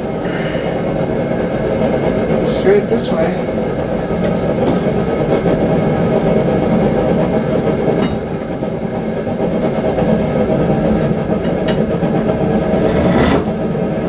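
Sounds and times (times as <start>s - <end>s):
forge rushing hiss: 0.0s - 14.0s.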